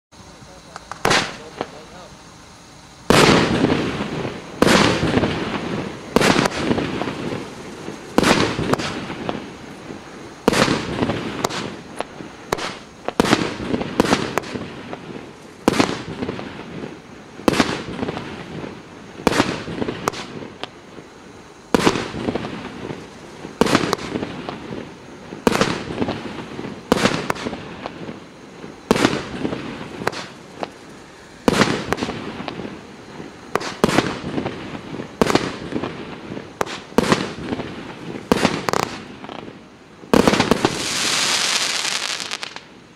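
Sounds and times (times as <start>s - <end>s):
fireworks bangs: 0.4s - 2.2s, 3.0s - 42.9s.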